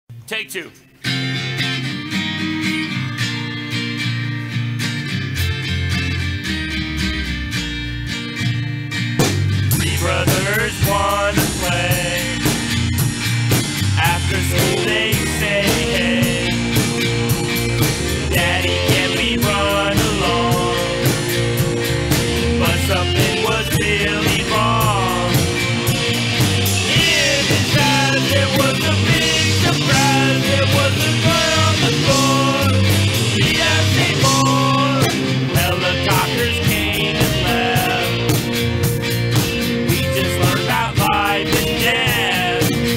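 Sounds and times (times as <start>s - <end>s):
rock band playing: 0.6s - 42.9s.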